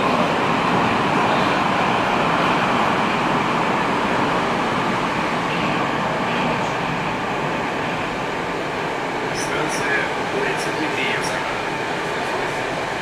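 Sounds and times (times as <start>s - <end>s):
metro train rushing through tunnel: 0.0s - 13.0s.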